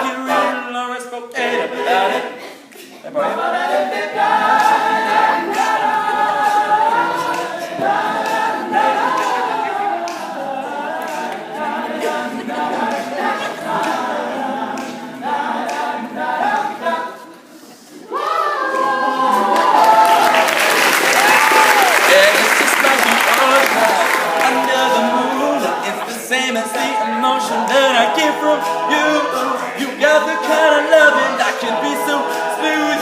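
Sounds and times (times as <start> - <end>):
a cappella group singing harmonies: 0.0 - 33.0.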